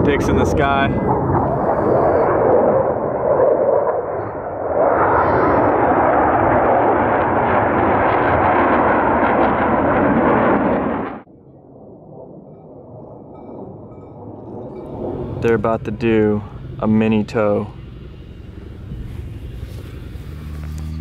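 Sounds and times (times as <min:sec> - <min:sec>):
jet aircraft passing overhead: 0:00.0 - 0:21.0.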